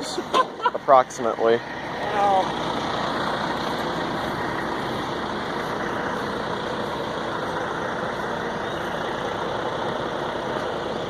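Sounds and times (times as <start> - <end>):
truck diesel engines running: 0.0 - 11.0.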